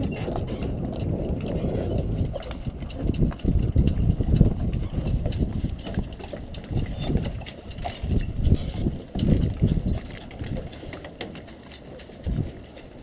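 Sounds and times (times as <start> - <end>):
wind buffeting microphone: 0.0 - 11.2, 12.0 - 13.0
light clicks and rattles: 0.0 - 13.0.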